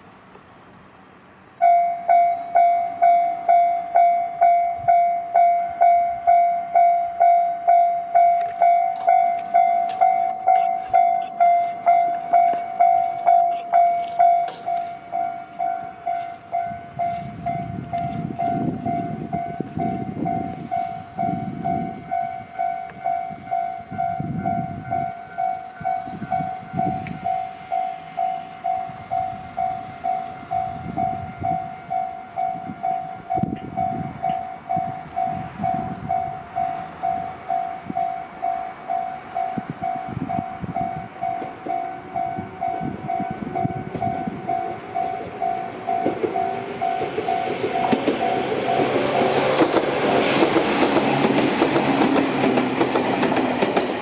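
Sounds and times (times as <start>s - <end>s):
train rumbling: 0.0s - 54.0s
railroad crossing bell clanging: 1.6s - 54.0s.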